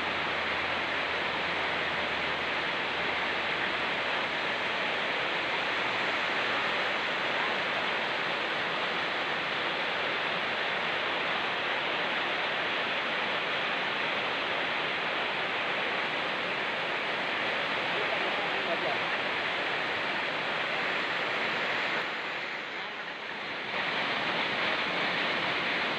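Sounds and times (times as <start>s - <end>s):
fast-flowing stream: 0.0s - 25.9s
rain: 0.0s - 25.9s.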